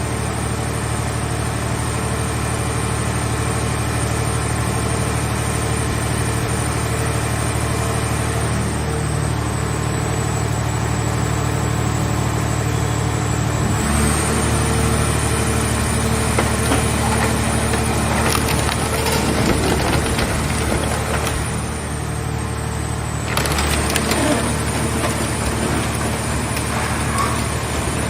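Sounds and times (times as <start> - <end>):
machine humming and whining: 2.3 - 28.0.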